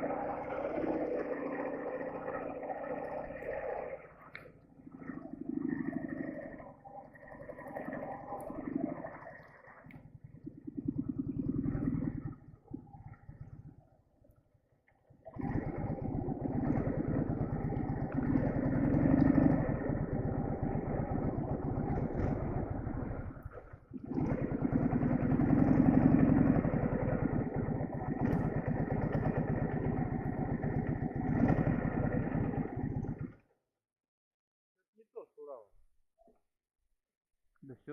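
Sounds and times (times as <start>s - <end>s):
motorcycle engine revving: 0.0s - 9.1s, 9.8s - 14.2s, 15.0s - 33.4s.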